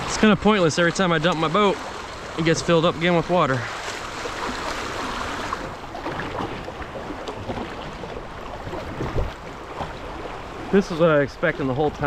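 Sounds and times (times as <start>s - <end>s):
river water rushing: 0.0s - 12.0s
small water splashes: 0.0s - 12.0s.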